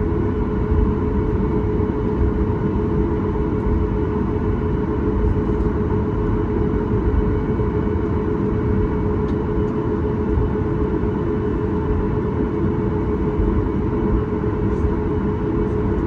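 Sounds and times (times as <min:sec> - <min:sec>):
airplane cabin engine drone: 0:00.0 - 0:16.0
constant hum: 0:00.0 - 0:16.0.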